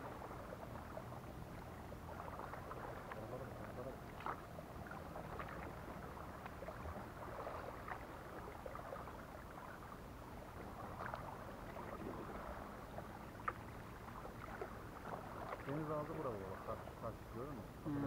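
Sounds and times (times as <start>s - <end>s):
paddle splashing in water: 0.0s - 17.8s.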